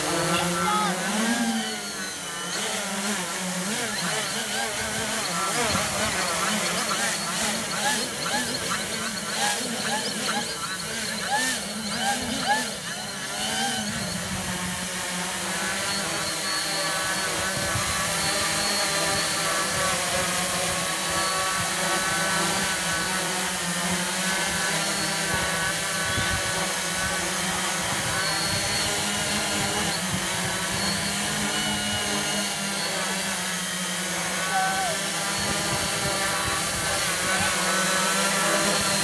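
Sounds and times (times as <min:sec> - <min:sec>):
drone motors hovering: 0:00.0 - 0:39.0.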